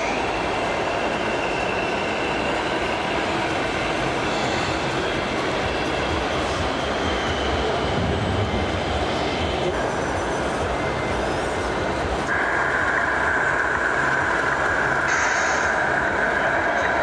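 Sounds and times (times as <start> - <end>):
high whine: 0.0 - 17.0
low mechanical drone: 0.0 - 17.0.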